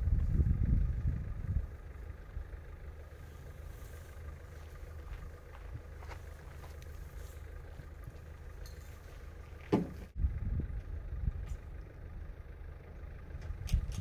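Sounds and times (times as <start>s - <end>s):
low rumbling: 0.0s - 14.0s.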